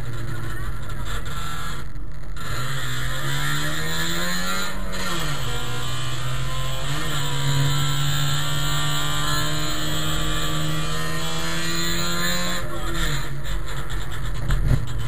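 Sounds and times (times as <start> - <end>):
two-stroke race car engine: 0.0 - 15.0.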